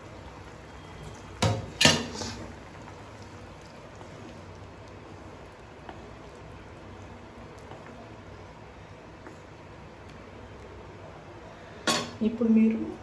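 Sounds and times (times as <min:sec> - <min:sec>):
curry bubbling in pan: 0:00.0 - 0:12.2.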